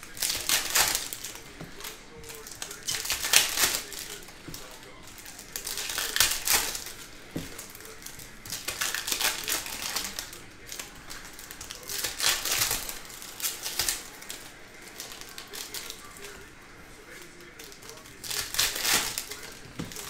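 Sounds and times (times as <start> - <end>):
foil wrappers crinkling and tearing: 0.0 - 20.0.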